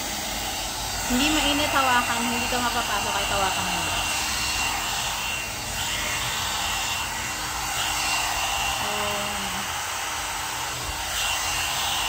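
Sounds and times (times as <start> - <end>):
hot-air brush blowing with whine: 0.0 - 12.0.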